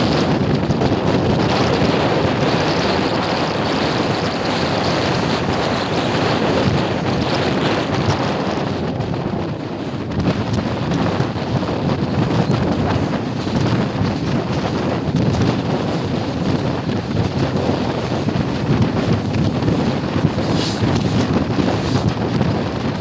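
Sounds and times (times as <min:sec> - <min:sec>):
moving train rumble: 0:00.0 - 0:23.0
wind buffeting microphone: 0:00.0 - 0:23.0.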